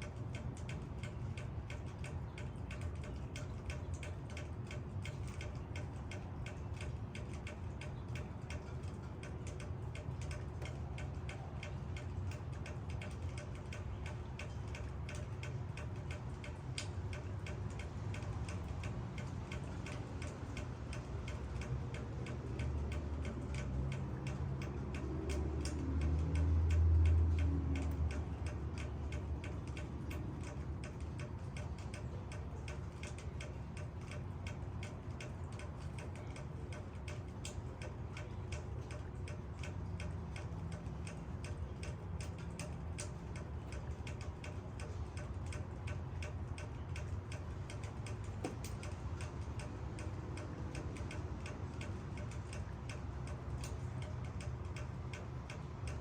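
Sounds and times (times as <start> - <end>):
rain dripping onto leaves: 0.0 - 56.0.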